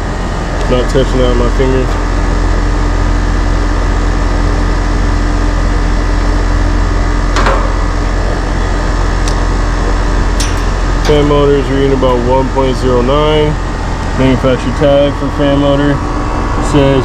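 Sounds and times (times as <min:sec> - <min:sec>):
air conditioner unit humming: 0:00.0 - 0:17.0.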